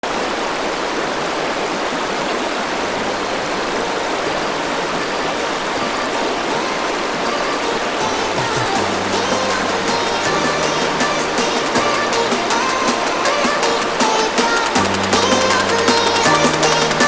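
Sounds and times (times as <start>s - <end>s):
steady rushing noise: 2.8s - 17.0s.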